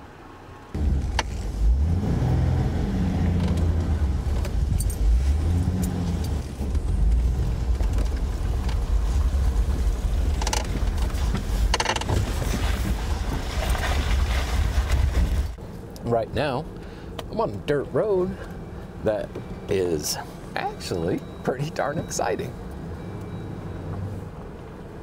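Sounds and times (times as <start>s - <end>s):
vehicle engine and tyre rumble: 0.0s - 25.0s.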